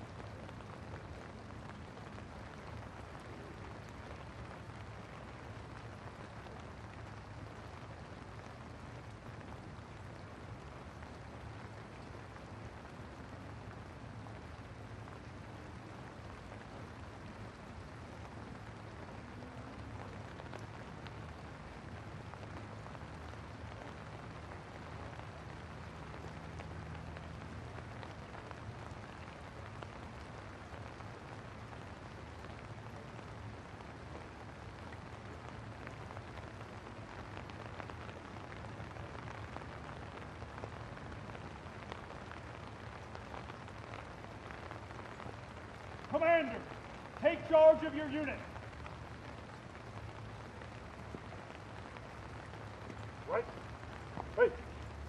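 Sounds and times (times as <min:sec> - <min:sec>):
rain on wet paving: 0:00.0 - 0:55.0.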